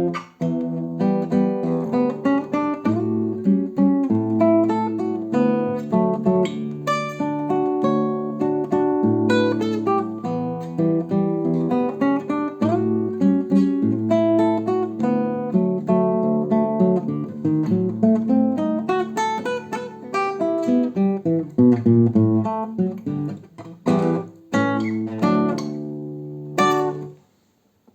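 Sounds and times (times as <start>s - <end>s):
acoustic guitar playing: 0.0s - 27.5s.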